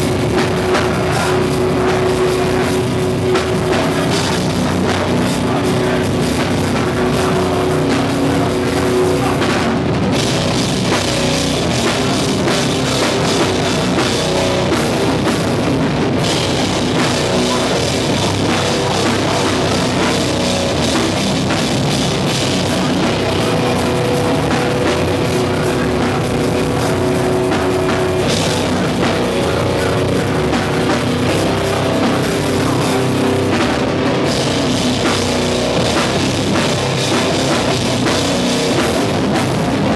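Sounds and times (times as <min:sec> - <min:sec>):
distorted guitars: 0:00.0 - 0:39.9
pounding drum kit: 0:00.0 - 0:39.9.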